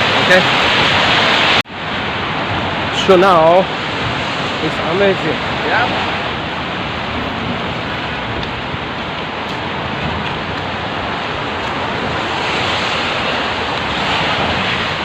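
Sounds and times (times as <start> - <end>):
steady rain falling: 0.0 - 15.0
wind rumbling on microphone: 0.0 - 15.0.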